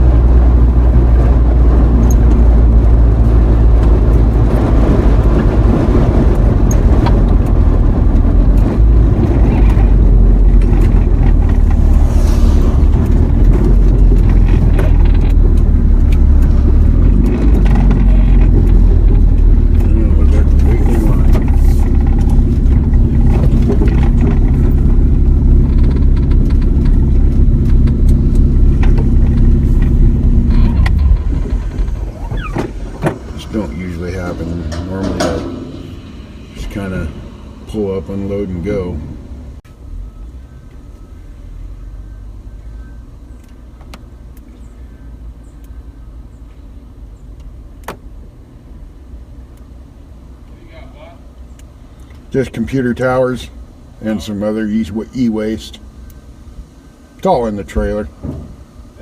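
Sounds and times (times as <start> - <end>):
engine drone: 0.0 - 59.0
road rumble: 0.0 - 59.0.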